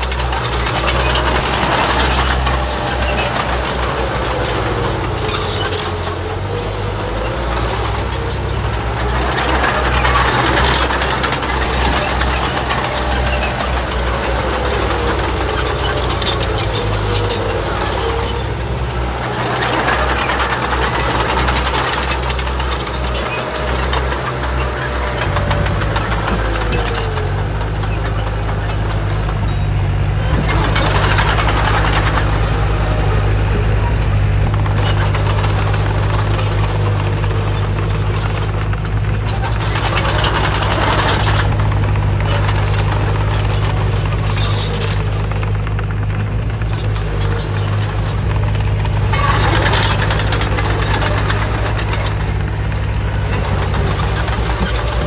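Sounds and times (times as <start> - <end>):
heavy diesel machinery engine drone: 0.0 - 55.0
rattling noise: 0.0 - 55.0.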